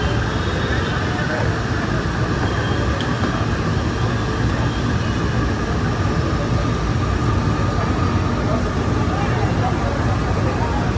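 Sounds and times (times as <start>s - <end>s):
street traffic rumble: 0.0s - 10.9s.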